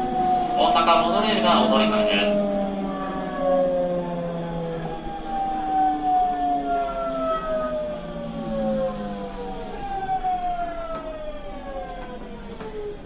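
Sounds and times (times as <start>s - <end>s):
train motors whining: 0.0s - 13.0s.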